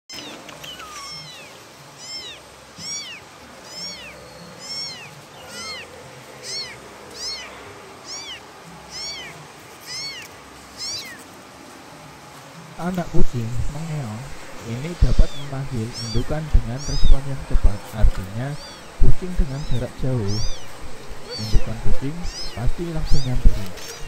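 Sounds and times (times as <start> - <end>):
kittens meowing: 0.1 - 11.2, 12.8 - 24.0.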